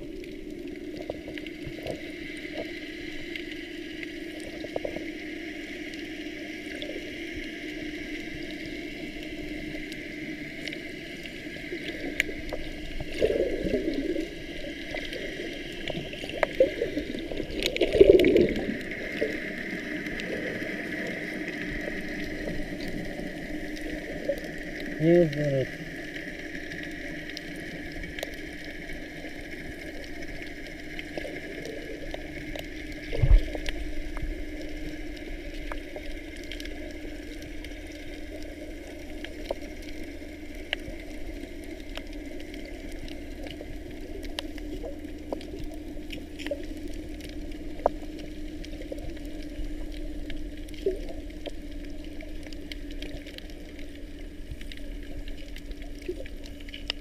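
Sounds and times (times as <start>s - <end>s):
faint clicks and crackles: 0.0s - 57.0s
muffled underwater hum: 0.0s - 57.0s.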